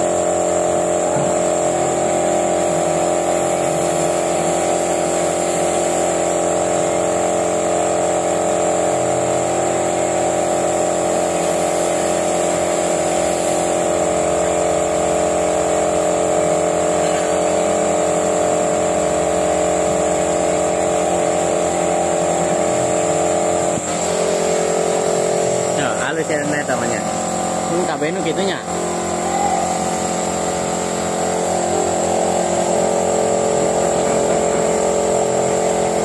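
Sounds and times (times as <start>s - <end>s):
machine motor hum and hiss: 0.0s - 36.0s.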